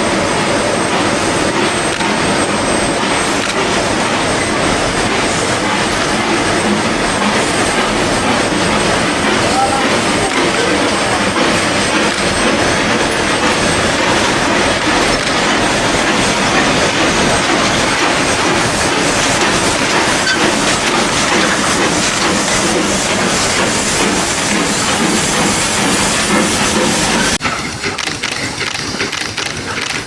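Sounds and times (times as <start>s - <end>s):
steam train running: 0.0s - 30.0s.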